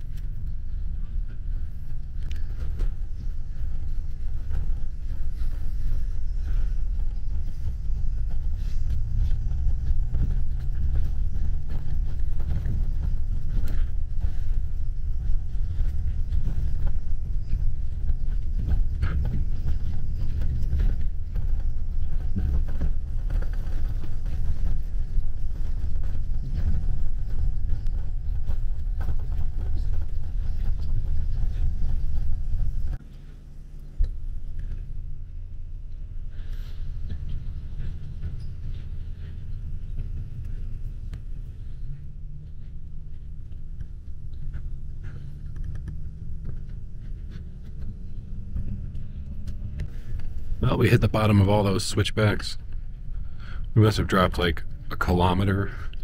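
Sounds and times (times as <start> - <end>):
bus road rumble: 0.0 - 56.0.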